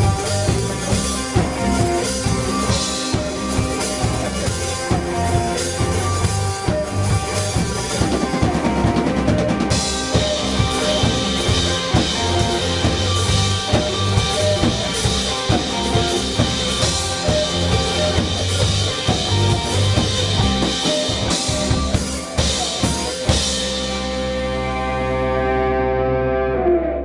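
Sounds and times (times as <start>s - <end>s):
drum kit pounding: 0.0s - 25.0s
live rock band playing: 0.0s - 27.0s.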